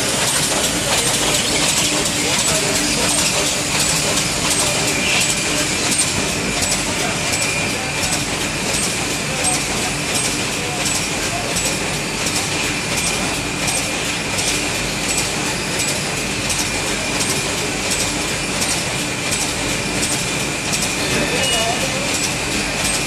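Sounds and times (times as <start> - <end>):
sharp machine clicks: 0.0 - 23.0.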